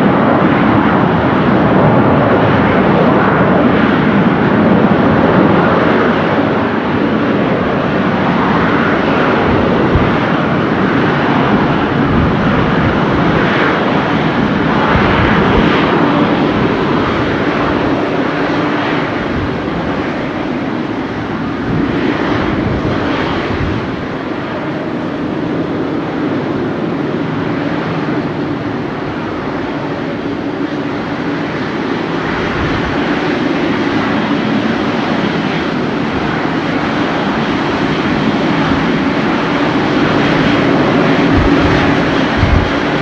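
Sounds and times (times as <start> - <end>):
jet engines taxiing: 0.0 - 43.0.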